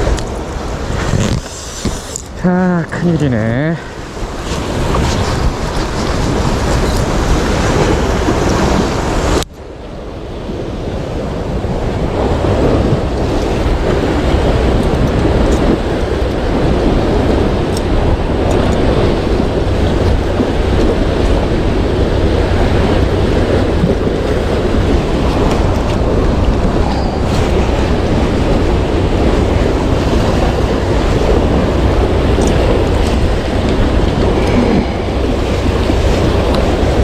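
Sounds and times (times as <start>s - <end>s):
sea waves washing: 0.0s - 37.0s
wind buffeting microphone: 0.0s - 37.0s.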